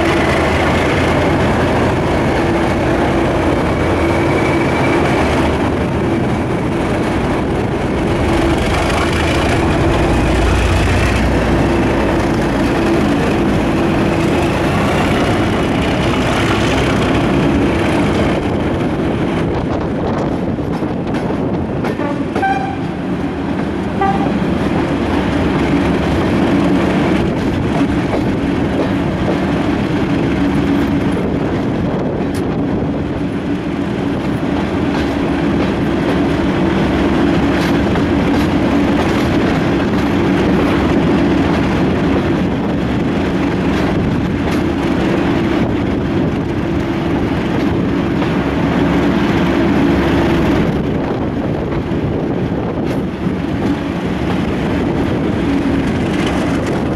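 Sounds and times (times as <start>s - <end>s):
diesel locomotive engine: 0.0s - 56.9s
train running on track: 0.0s - 56.9s.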